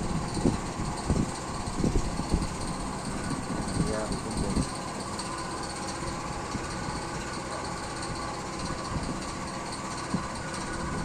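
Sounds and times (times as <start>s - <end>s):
machinery humming and hissing: 0.0s - 11.0s.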